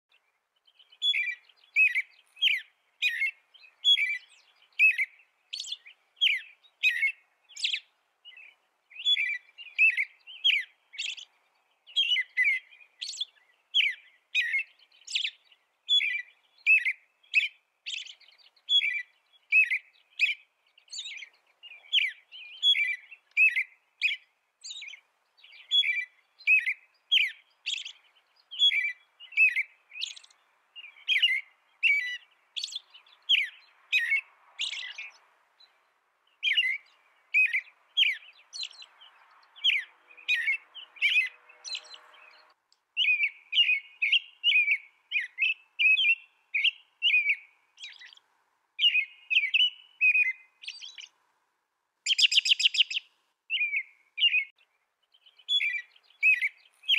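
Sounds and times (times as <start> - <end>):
robin singing: 0.1 - 51.2, 52.0 - 56.9.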